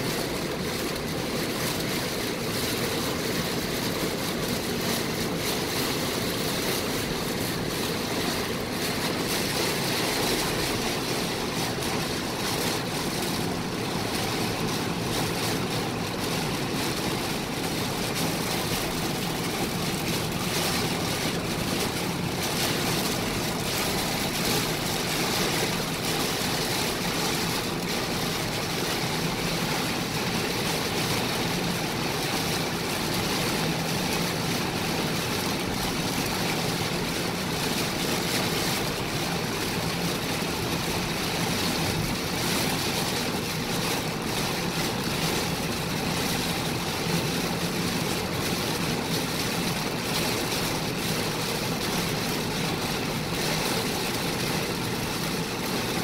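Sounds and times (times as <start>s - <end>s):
rain beating on car roof: 0.0s - 56.0s
tyres hissing on wet road: 0.0s - 56.0s.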